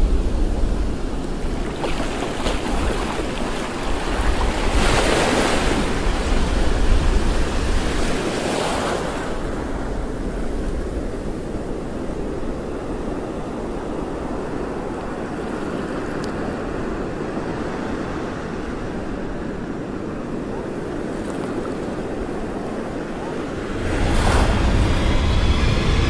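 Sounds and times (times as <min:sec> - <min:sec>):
waves on sandy shore: 0:00.0 - 0:26.0
wind on microphone: 0:00.0 - 0:26.0.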